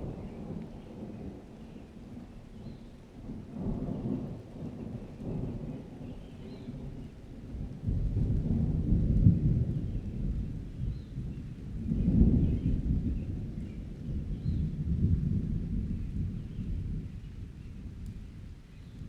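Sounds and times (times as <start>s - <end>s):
light rain: 0.0s - 19.0s
thunder rumbling: 3.2s - 19.0s.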